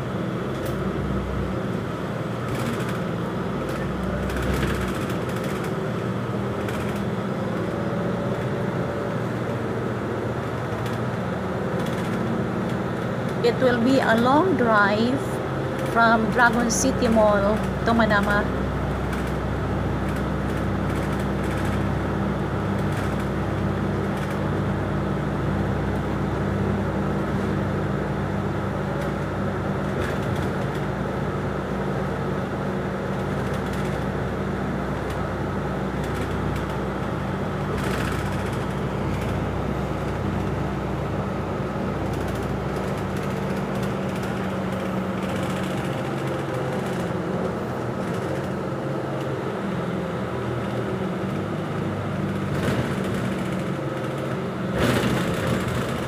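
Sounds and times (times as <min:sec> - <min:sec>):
bus engine hum: 0:00.0 - 0:56.0
tyres rumbling on road: 0:00.0 - 0:56.0.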